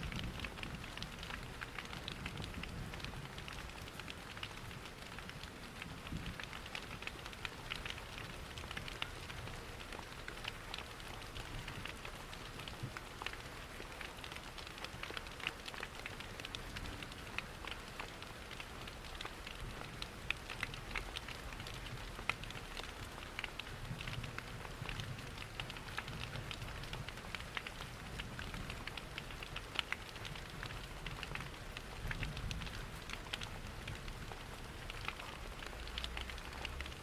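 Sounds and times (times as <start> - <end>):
rain pattering: 0.0 - 37.0
small sharp ticks: 0.0 - 37.0
wood fire crackling: 0.0 - 37.0.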